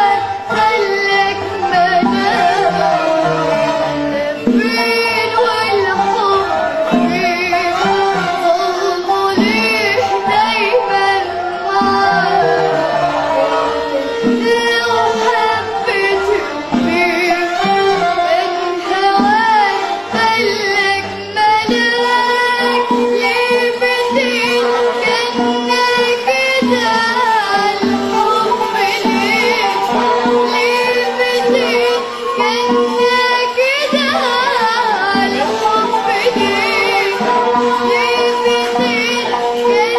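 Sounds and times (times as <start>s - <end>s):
girl singing: 0.0s - 39.9s
live band with drum beat: 0.0s - 39.9s.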